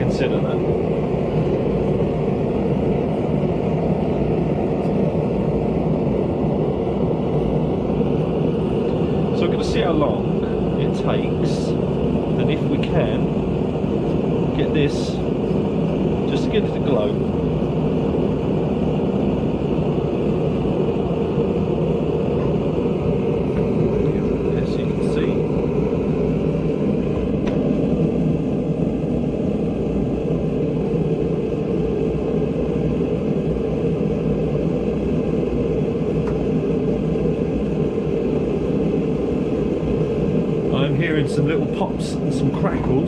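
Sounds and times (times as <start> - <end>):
gas burner roaring: 0.0 - 43.0.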